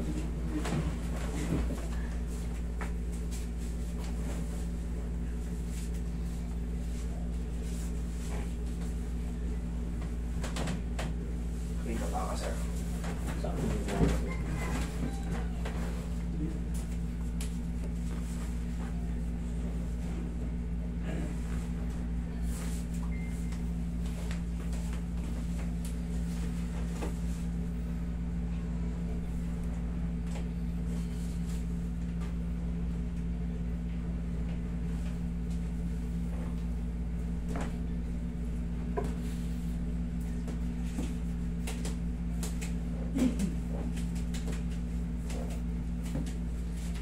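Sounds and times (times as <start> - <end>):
air conditioner hum: 0.0 - 47.0.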